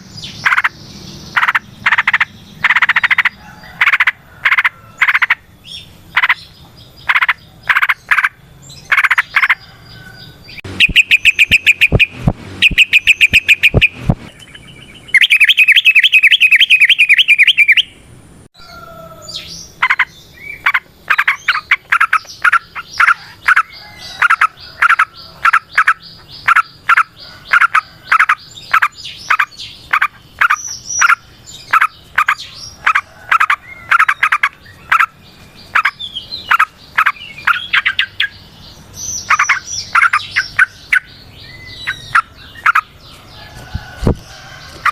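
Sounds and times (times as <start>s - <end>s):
bulbul calling: 0.0s - 9.7s, 10.5s - 18.0s, 19.3s - 44.9s
bird fast trill: 0.0s - 18.0s, 19.2s - 43.1s.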